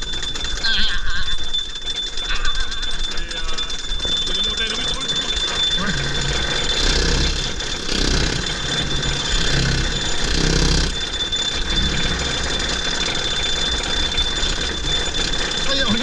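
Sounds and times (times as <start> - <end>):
lift mechanism high-pitched whine: 0.0 - 16.0
roller coaster rumble and rattle: 2.3 - 16.0.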